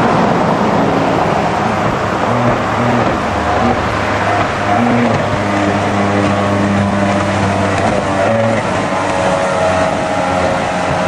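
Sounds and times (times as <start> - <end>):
jet boat engine at high revs: 0.0 - 11.0
water hissing and spray: 0.0 - 11.0.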